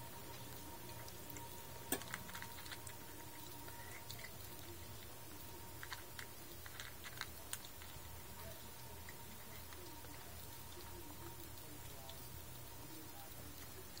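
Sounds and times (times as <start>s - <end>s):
steady low hum: 0.0s - 14.0s
cat crunching kibble: 0.1s - 14.0s.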